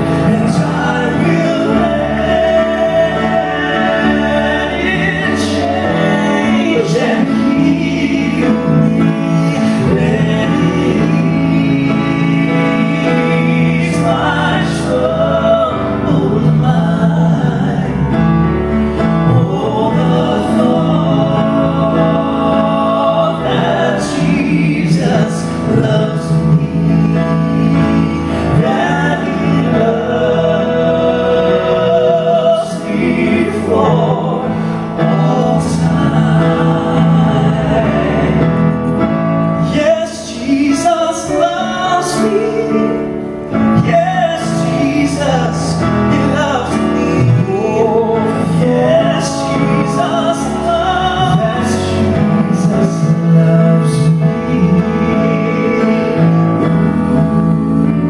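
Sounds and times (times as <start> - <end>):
men singing gospel song: 0.0 - 58.0
musical accompaniment: 0.0 - 58.0.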